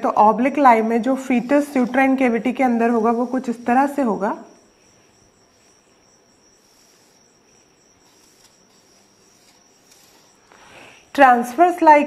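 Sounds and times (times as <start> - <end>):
cricket chirring: 0.0 - 12.0.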